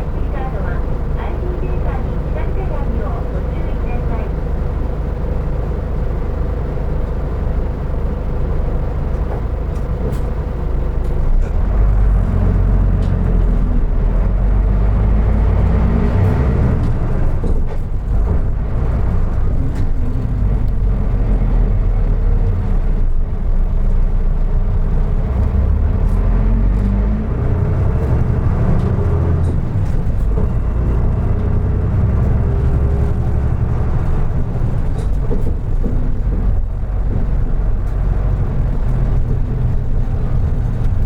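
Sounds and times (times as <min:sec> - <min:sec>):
bus engine drone: 0:00.0 - 0:41.0.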